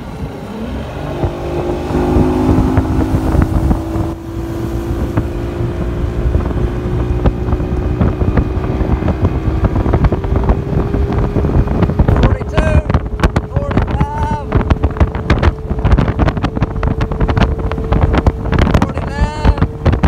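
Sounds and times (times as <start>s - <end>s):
hull slapping water: 0.0s - 20.0s
outboard engine accelerating: 0.0s - 20.0s
wind buffeting microphone: 0.0s - 20.0s.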